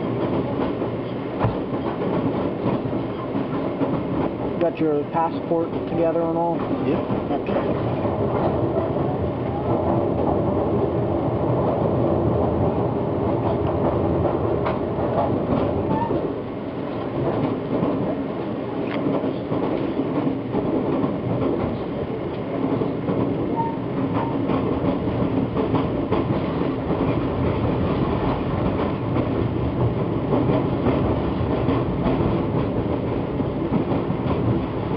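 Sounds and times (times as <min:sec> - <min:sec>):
train rumble from inside: 0:00.0 - 0:34.9.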